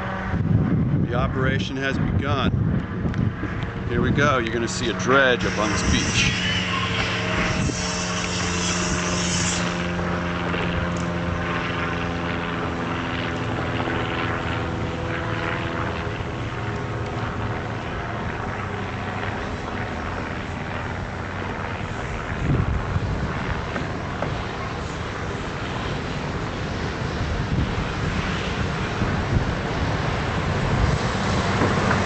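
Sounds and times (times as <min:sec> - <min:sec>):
engine droning with hiss: 0:03.5 - 0:32.0.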